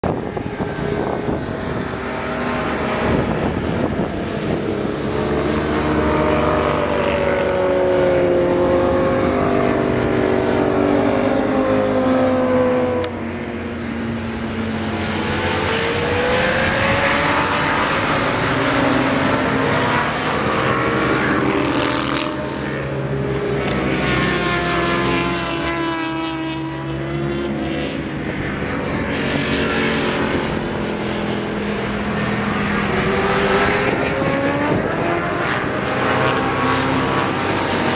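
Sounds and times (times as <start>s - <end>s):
motorcycles passing at speed: 0.0s - 37.9s.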